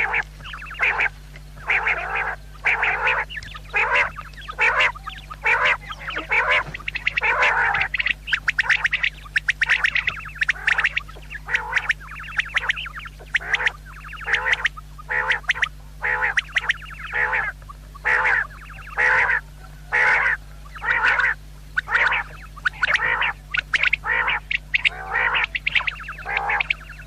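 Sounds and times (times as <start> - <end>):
quail calling: 0.0 - 27.0.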